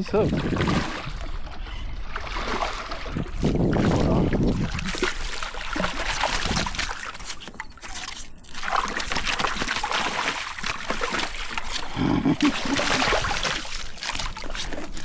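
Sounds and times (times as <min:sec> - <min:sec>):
seawater sloshing over rocks: 0:00.0 - 0:15.0.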